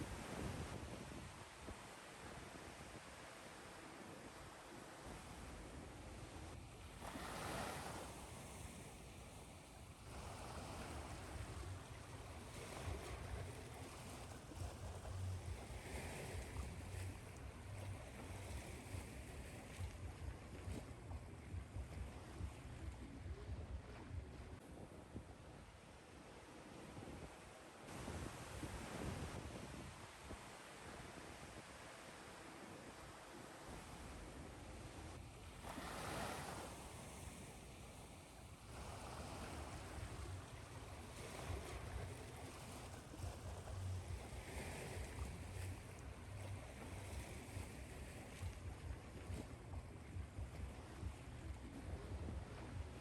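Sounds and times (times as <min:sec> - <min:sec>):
ocean waves on shore: 0:00.0 - 0:53.0
steady white-noise hiss: 0:00.0 - 0:53.0.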